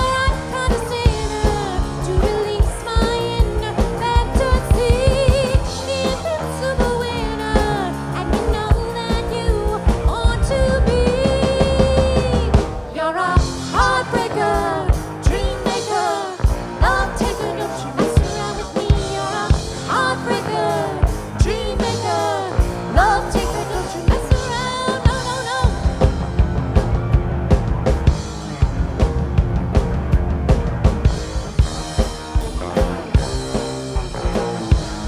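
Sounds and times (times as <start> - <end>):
drum kit: 0.0 - 35.0
live rock band playing: 0.0 - 35.0
sliding bending lead melody: 0.0 - 35.0.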